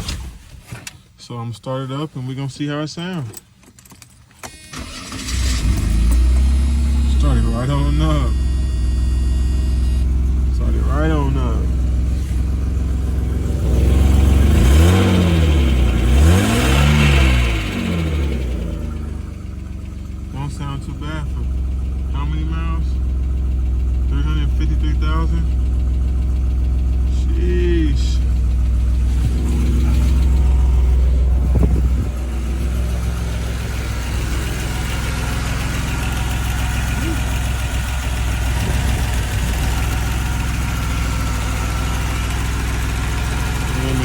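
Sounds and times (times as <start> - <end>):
car engine running and revving: 5.2 - 44.0.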